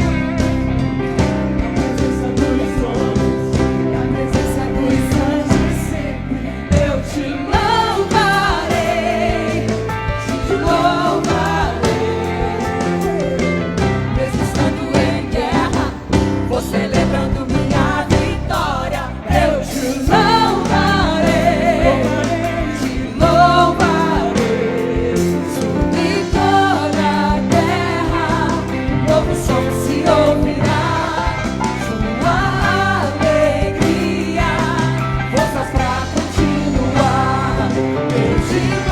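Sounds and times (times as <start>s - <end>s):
gospel singers with band: 0.0s - 38.9s.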